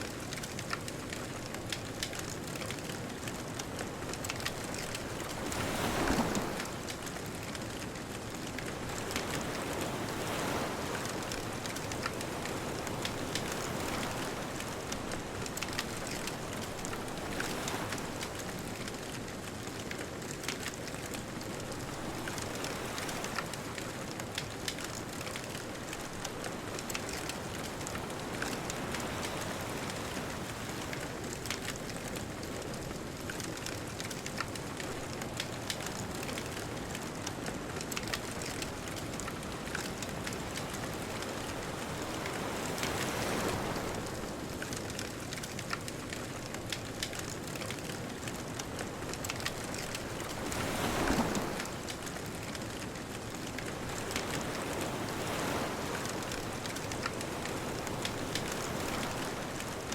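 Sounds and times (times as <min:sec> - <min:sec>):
bonfire crackling: 0:00.0 - 0:05.8, 0:06.5 - 0:10.3, 0:11.1 - 0:22.2, 0:23.1 - 0:59.9.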